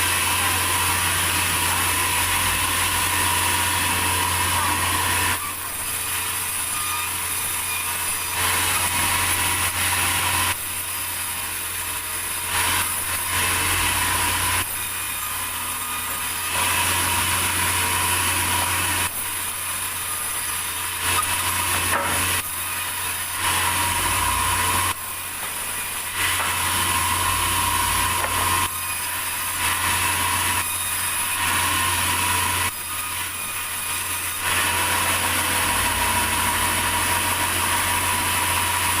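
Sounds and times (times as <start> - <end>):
saw blade cutting wood: 0.0 - 39.0.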